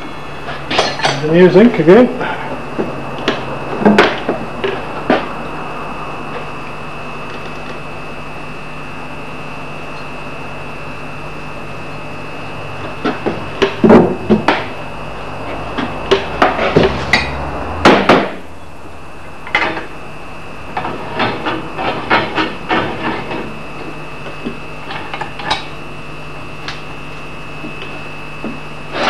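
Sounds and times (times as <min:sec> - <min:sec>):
steady hum with high whine: 0:00.0 - 0:29.0.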